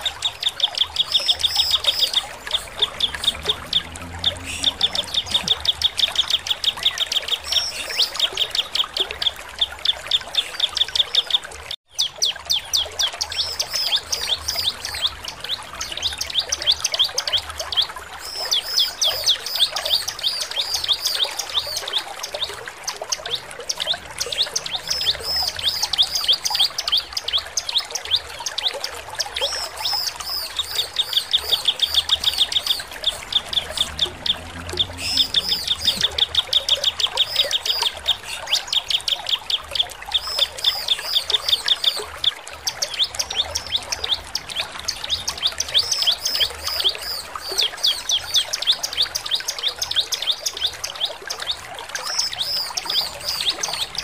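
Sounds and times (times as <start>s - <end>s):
bird chirping and trilling: 0.0s - 22.5s, 23.2s - 54.0s.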